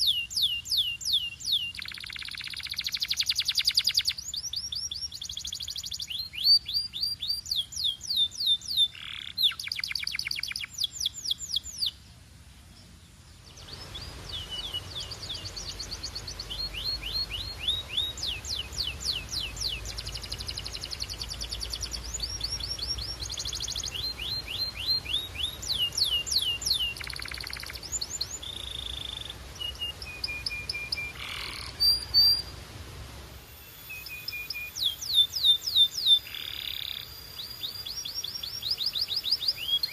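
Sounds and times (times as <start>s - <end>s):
canary singing trills: 0.0s - 12.0s, 13.4s - 32.6s, 33.5s - 39.9s.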